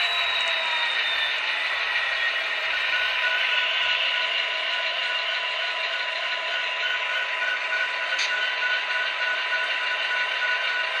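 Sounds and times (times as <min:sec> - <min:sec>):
diesel engine sound through small speaker: 0:00.0 - 0:11.0.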